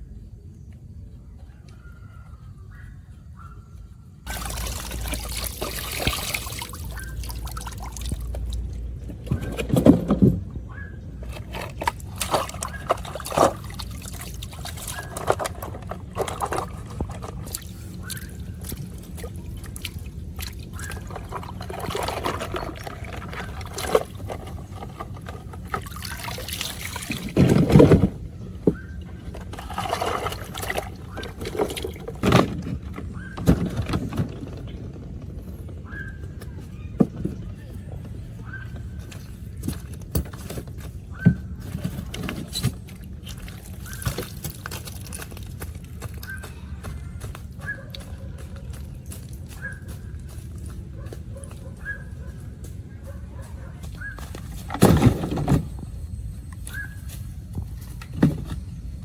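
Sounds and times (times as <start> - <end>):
water pouring and sloshing: 4.2 - 59.0
knocks and clatter of handling: 8.0 - 59.0.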